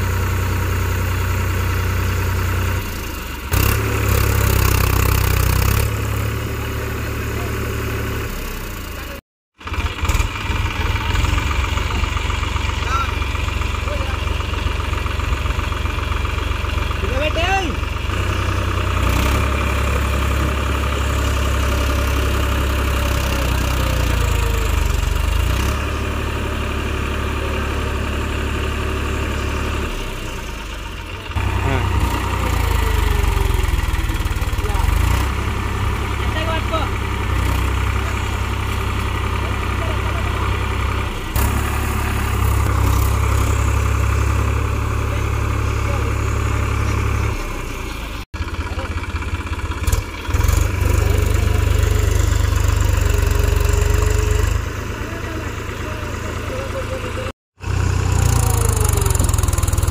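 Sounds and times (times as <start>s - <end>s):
tractor diesel engine rumbling: 0.0s - 59.9s.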